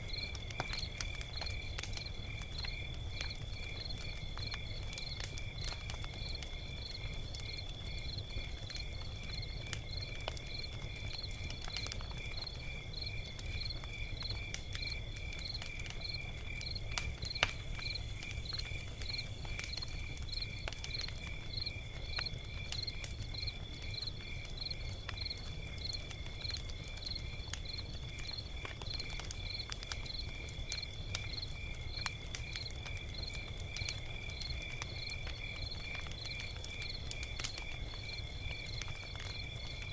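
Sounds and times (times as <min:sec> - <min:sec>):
crickets chirping: 0:00.0 - 0:39.9
log fire crackling and popping: 0:00.0 - 0:39.9.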